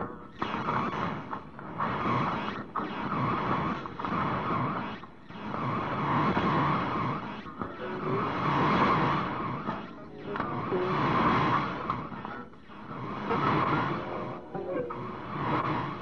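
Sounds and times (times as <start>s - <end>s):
harsh distorted noise music: 0.0s - 16.0s.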